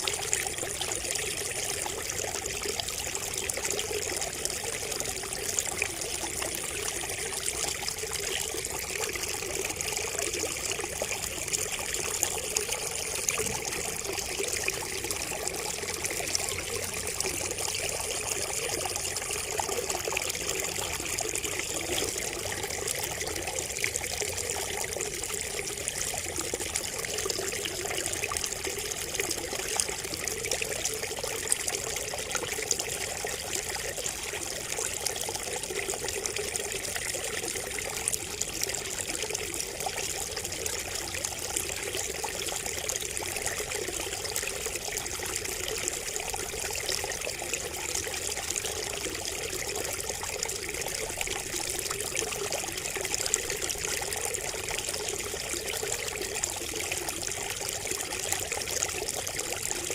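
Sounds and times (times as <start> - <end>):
water trickling from bamboo spout: 0.0 - 59.9.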